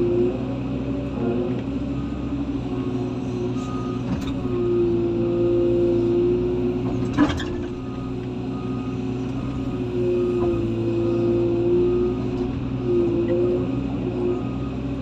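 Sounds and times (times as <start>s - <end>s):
diesel engine running: 0.0s - 15.0s
engine whine: 0.0s - 15.0s.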